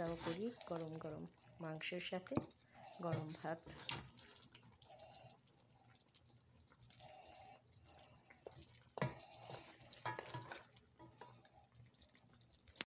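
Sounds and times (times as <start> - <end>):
soft wet gravy sounds: 0.0 - 12.9.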